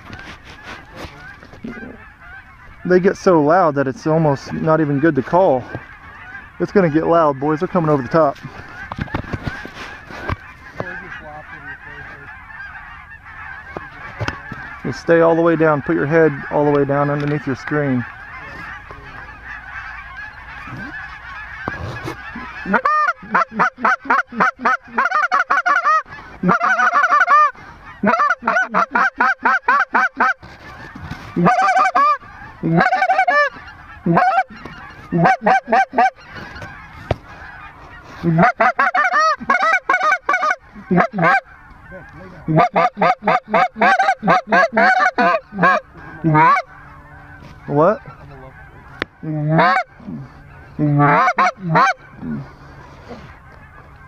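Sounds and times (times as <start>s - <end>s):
geese chattering: 0.0s - 54.0s
goose call honks: 0.1s - 54.0s.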